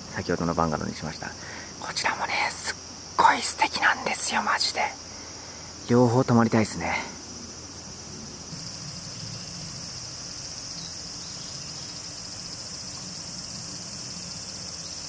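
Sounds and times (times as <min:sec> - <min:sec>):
higher-pitched insect layer: 0:00.0 - 0:15.0
insect chorus drone: 0:00.0 - 0:15.0.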